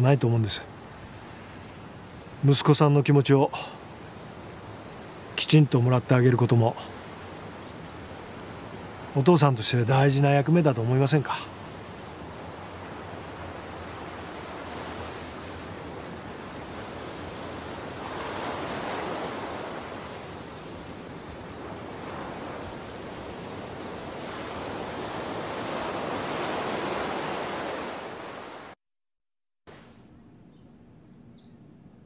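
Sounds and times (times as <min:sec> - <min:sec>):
waves rushing: 0:00.0 - 0:28.8.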